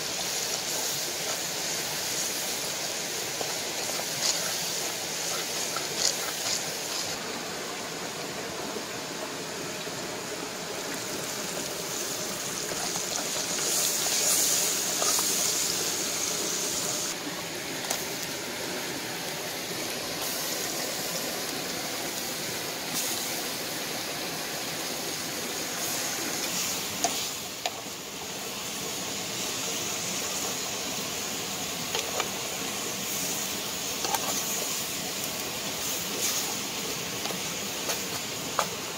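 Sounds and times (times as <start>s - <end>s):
food sizzling in a pot: 0.0s - 7.4s, 10.8s - 38.9s.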